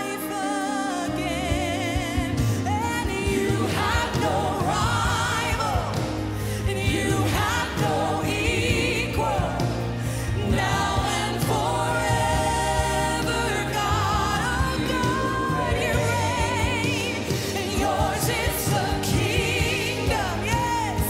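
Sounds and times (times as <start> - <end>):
band playing gospel music: 0.0 - 21.0
congregation singing: 0.0 - 21.0
woman singing: 0.0 - 21.0.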